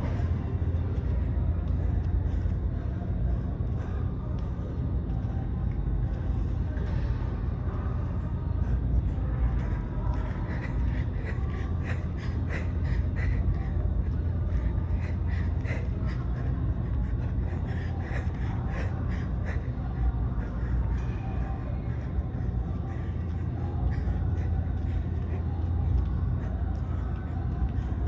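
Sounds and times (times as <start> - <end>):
person breathing heavily: 0.0 - 28.0
steady low rumble: 0.0 - 28.0.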